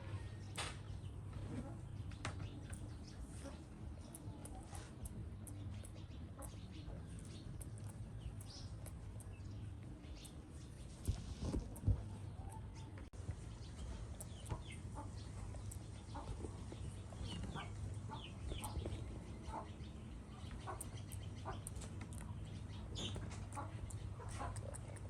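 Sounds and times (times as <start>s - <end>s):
animal chirps and clucks: 0.0s - 25.0s
steady low hum: 0.0s - 25.0s.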